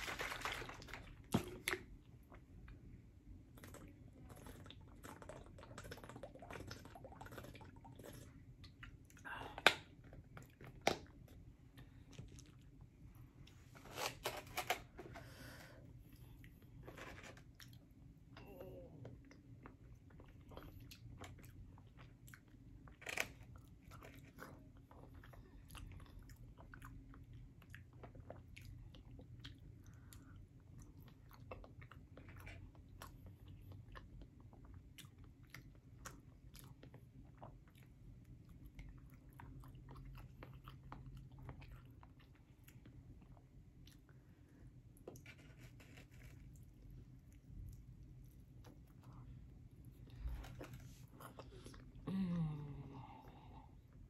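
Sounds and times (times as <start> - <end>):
person chewing food: 0.8 - 18.2, 19.0 - 54.0.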